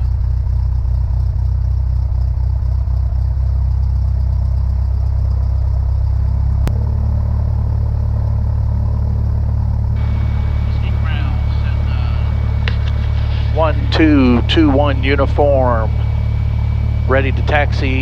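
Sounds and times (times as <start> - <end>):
aircraft piston engine idling: 0.0 - 18.0.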